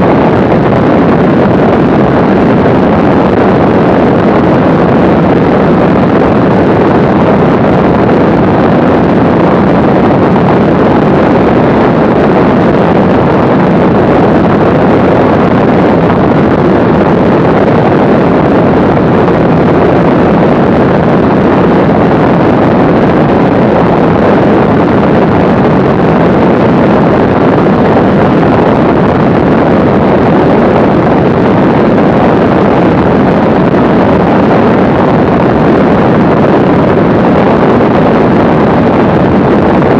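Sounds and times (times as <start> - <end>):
propeller aircraft engine cruising: 0.0 - 39.9
wind rush on microphone: 0.0 - 39.9.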